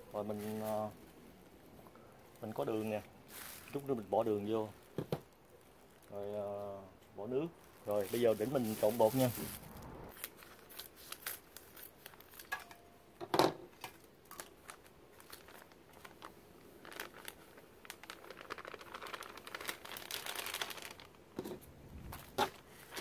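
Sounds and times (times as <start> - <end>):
packet crinkling and rustling: 0.1 - 6.5, 7.6 - 12.6, 13.8 - 23.0.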